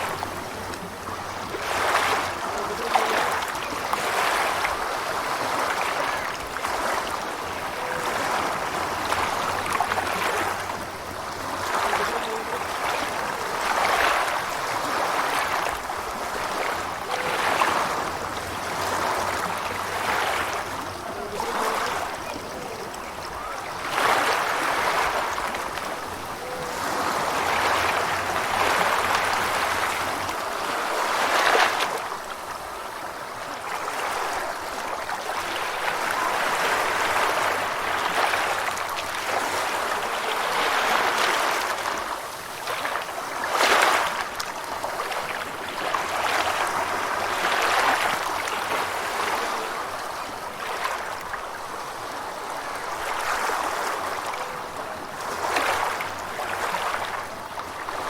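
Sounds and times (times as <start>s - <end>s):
ocean waves washing ashore: 0.0s - 58.0s.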